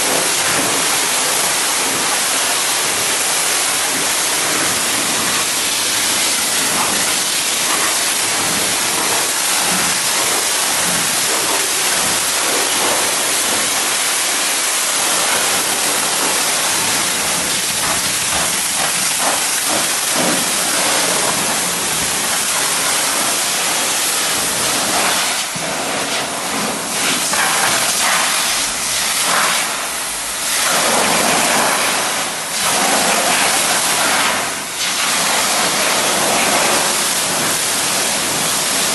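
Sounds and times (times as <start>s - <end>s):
water spray hissing: 0.0s - 38.9s.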